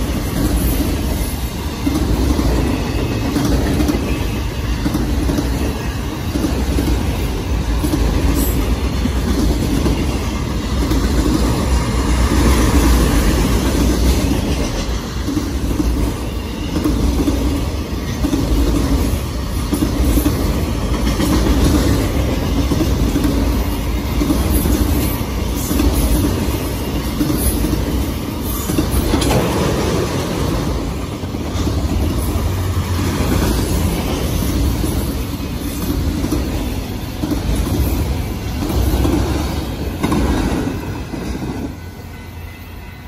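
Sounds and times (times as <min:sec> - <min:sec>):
freight cars rumbling on rails: 0:00.0 - 0:43.0.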